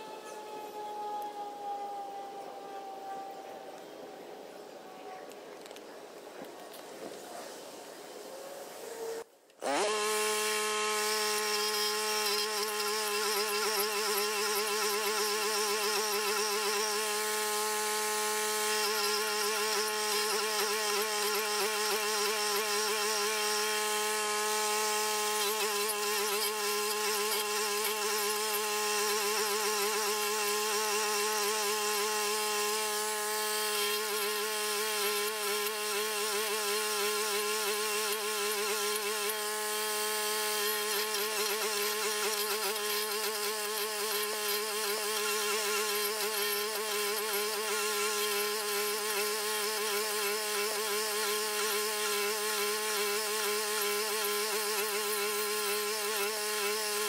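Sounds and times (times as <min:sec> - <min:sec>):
stump grinder engine and cutting wheel: 0:09.6 - 0:57.0.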